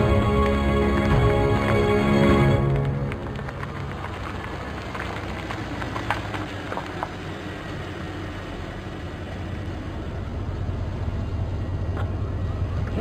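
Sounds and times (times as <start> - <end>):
car engine running low: 0.0 - 13.0.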